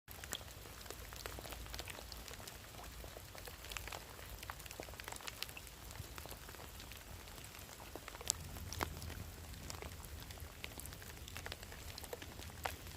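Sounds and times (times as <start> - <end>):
rain pattering: 0.1 - 12.9.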